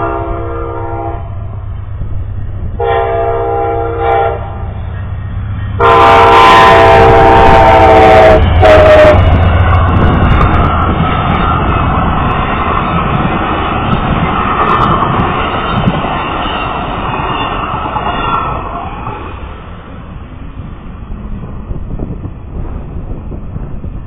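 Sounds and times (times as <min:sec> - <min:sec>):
train cars passing at speed: 0:00.0 - 0:24.0.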